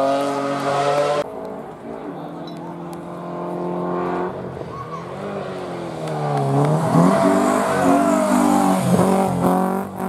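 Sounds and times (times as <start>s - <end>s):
rally car engine accelerating: 0.0s - 10.0s.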